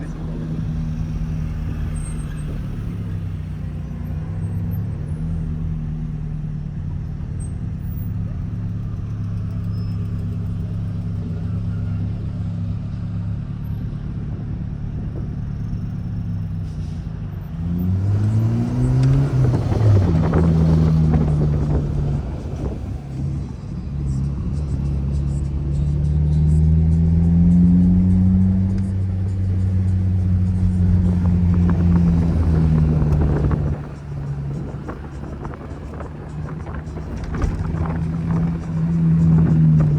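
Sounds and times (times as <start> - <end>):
car engine running and revving: 0.0 - 39.9.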